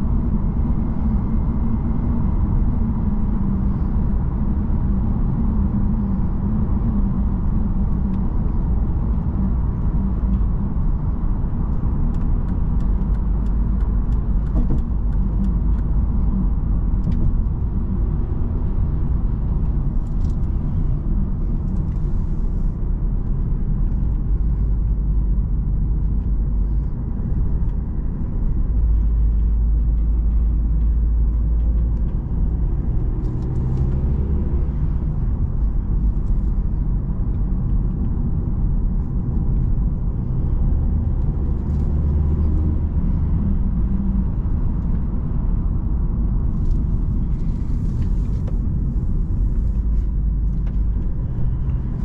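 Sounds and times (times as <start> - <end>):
in-cabin road and engine rumble: 0.0 - 52.0.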